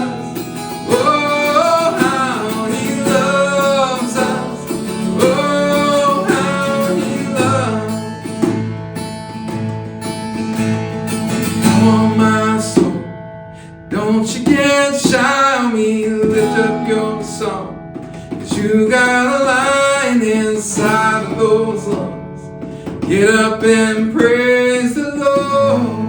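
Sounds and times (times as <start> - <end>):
person singing: 0.0 - 8.6, 11.6 - 13.0, 13.9 - 17.8, 18.4 - 26.0
strummed acoustic guitar: 0.0 - 26.0.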